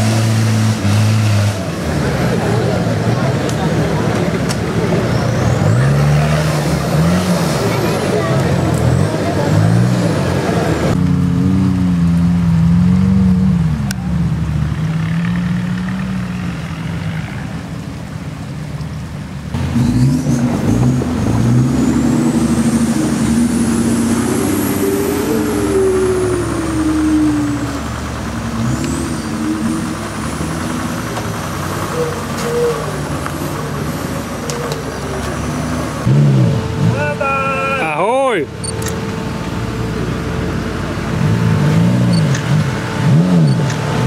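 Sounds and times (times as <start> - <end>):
off-road engines revving: 0.0 - 44.0.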